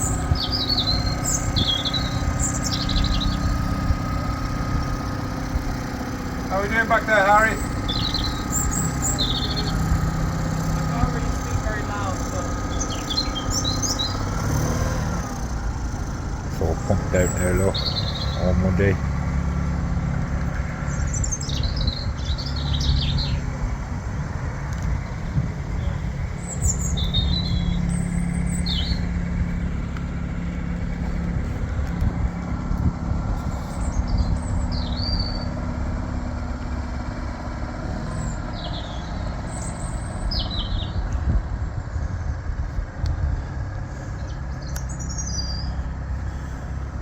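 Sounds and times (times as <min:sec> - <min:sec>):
small birds chirping: 0:00.0 - 0:42.8, 0:43.4 - 0:47.0
boat engine running: 0:00.0 - 0:47.0.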